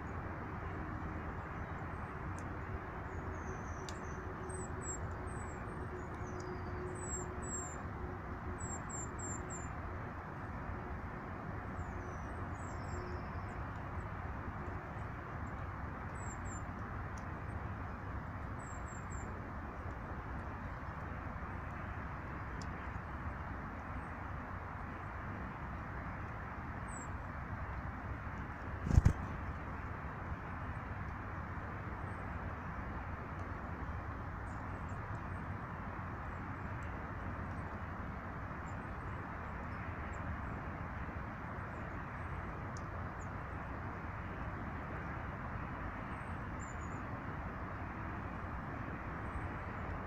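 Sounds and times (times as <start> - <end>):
low rushing background noise: 0.0 - 50.0.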